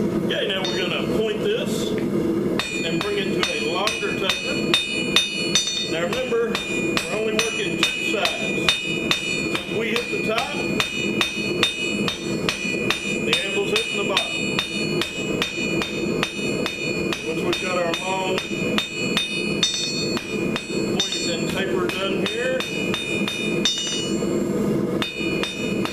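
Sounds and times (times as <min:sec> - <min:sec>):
anvil ringing: 0:00.5 - 0:01.2, 0:02.6 - 0:25.9
hammer striking metal on anvil: 0:00.6 - 0:01.2, 0:02.6 - 0:25.9.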